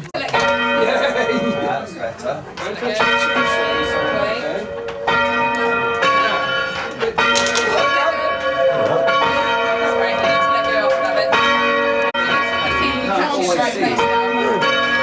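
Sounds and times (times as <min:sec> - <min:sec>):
church bells ringing: 0:00.2 - 0:02.1, 0:02.7 - 0:15.0.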